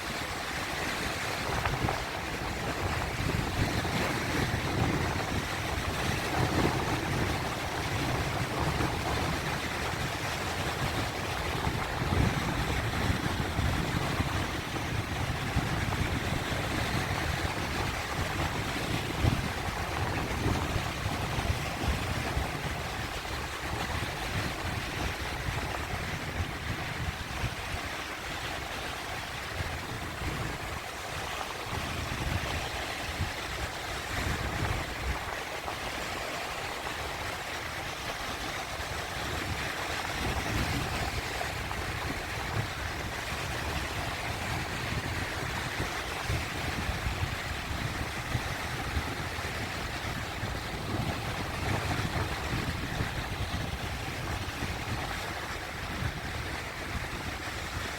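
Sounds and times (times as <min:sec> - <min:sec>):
sea waves breaking: 0:00.0 - 0:57.9.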